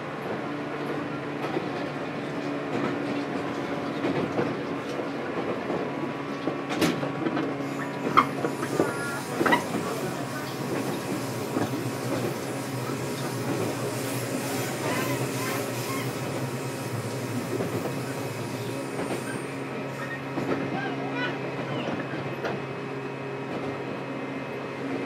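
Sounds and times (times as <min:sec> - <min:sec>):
train running gear hum: 0:00.0 - 0:25.0.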